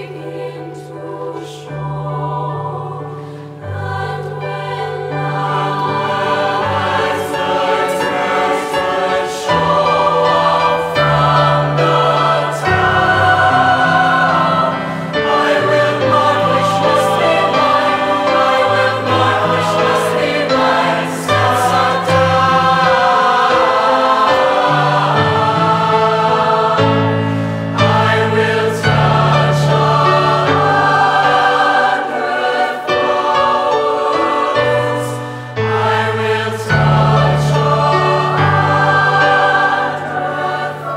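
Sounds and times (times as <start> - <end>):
keyboard accompaniment: 0.0 - 40.9
youth choir singing: 0.0 - 40.9.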